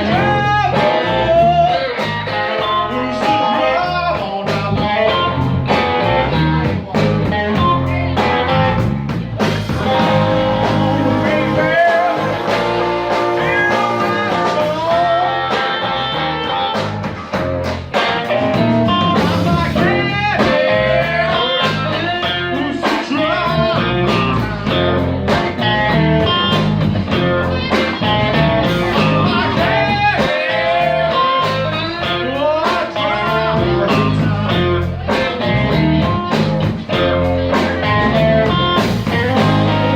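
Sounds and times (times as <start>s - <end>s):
guitar with bent notes: 0.0s - 39.9s
live blues band: 0.0s - 39.9s.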